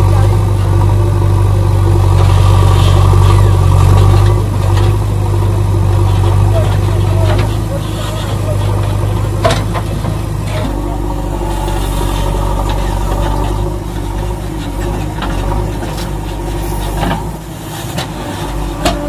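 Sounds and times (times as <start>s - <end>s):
heavy engine idling: 0.0s - 19.0s.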